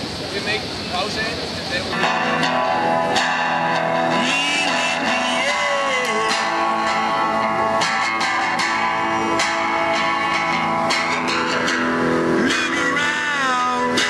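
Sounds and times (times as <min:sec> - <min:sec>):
guitar music: 0:01.9 - 0:14.0.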